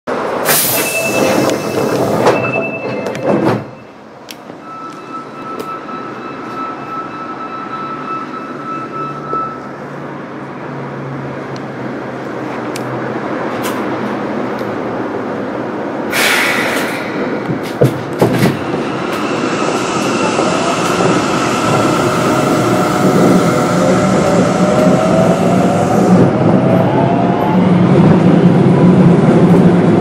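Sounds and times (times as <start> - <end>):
subway cabin hum: 0.1 - 30.0
train pulling away hum: 0.1 - 30.0.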